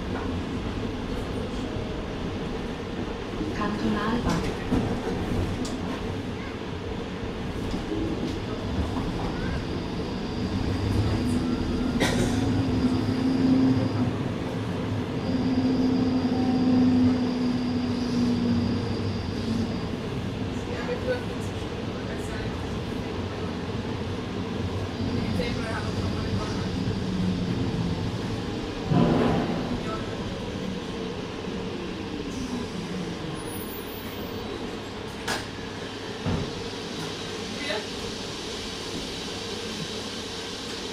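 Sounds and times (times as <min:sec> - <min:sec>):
tram electric drive hum and whine: 0:00.0 - 0:40.9
tram rolling on rails: 0:00.0 - 0:40.9.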